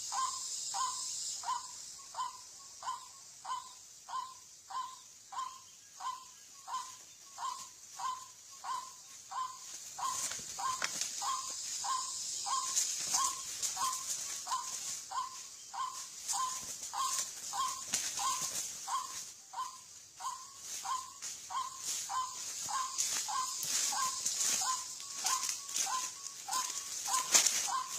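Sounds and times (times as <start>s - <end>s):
steady high hiss: 0.0s - 27.9s
waterhen calling: 0.2s - 27.9s.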